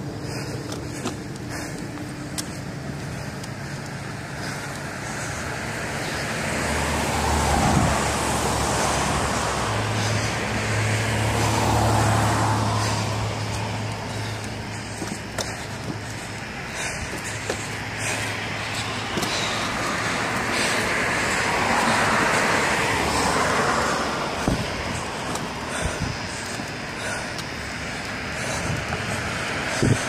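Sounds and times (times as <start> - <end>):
cars passing on road: 0.0 - 30.0.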